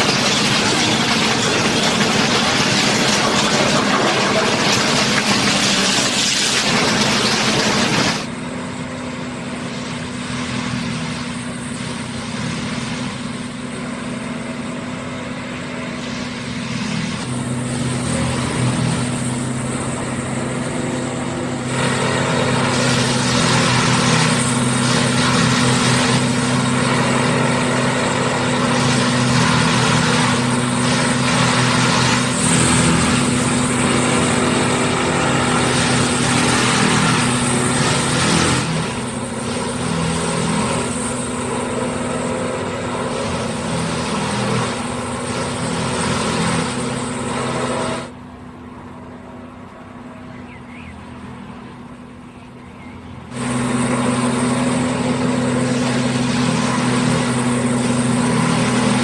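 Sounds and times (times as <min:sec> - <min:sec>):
diesel engine rushing noise: 0:00.0 - 0:59.0
engine hum on track: 0:00.0 - 0:59.0.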